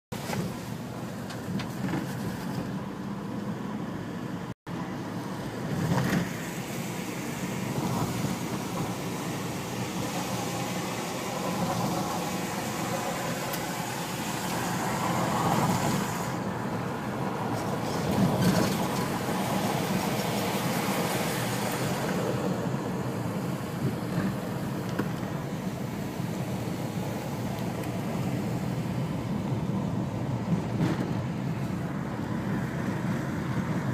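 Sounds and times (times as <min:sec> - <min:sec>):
car engine and tyre noise: 0:00.1 - 0:33.9.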